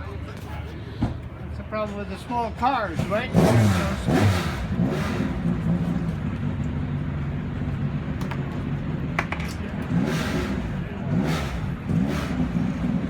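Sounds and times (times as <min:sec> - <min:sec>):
race car engine idling: 0:00.0 - 0:13.0.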